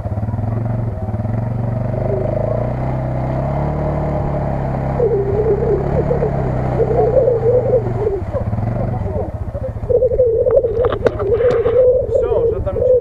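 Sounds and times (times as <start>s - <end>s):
quad bike engine under load: 0.0s - 13.0s
wavering higher tone: 0.6s - 13.0s.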